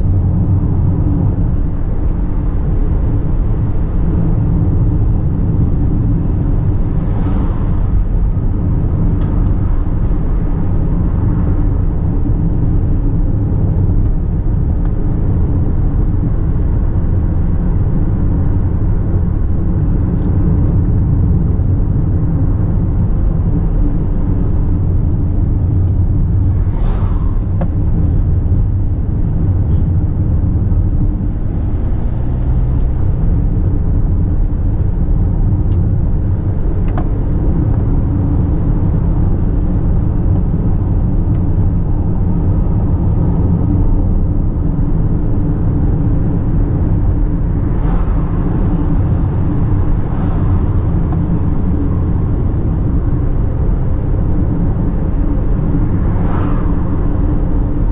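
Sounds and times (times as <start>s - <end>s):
car engine and road noise: 0.0s - 57.9s.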